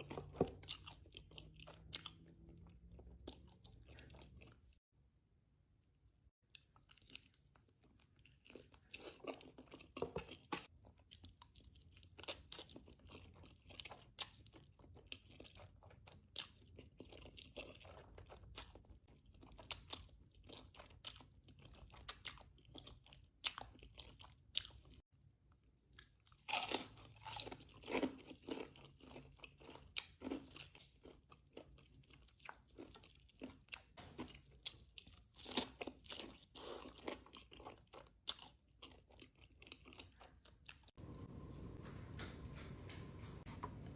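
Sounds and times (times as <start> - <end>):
person chewing crunchy food: 0.0 - 4.8, 6.5 - 25.0, 25.9 - 43.9.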